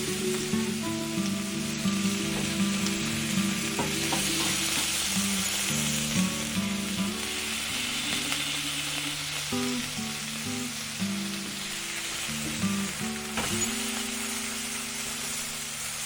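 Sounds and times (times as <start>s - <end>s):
background music with melody: 0.0s - 16.0s
food sizzling in a pan: 0.0s - 16.0s.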